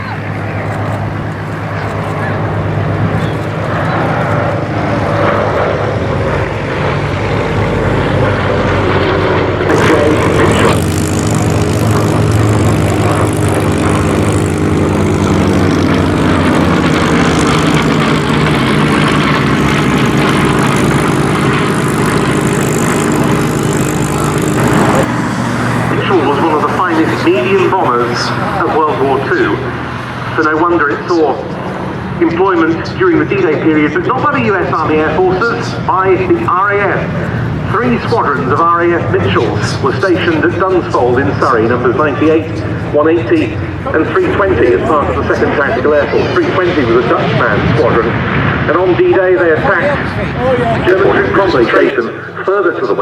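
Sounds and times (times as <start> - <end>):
propeller airplane flying past: 0.0 - 53.0.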